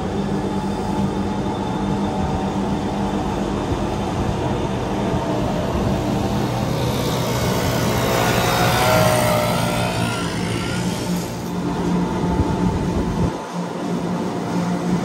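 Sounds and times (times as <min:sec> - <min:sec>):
electric train motor hum: 0:00.0 - 0:15.0
high motor whine: 0:00.0 - 0:15.0.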